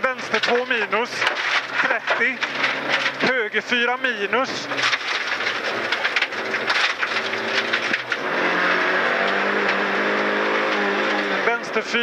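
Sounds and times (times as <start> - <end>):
car engine accelerating: 0.0 - 12.0
gravel rattling under car: 0.0 - 12.0.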